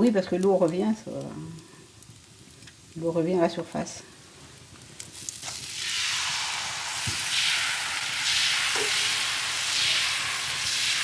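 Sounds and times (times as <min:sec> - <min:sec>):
sizzling on a hot griddle: 0:01.8 - 0:11.0.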